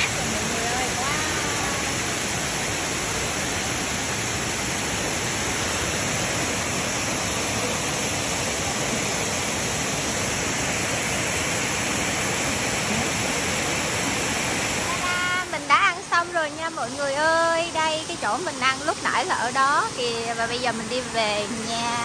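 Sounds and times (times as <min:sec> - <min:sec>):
stream babbling: 0:00.0 - 0:22.0.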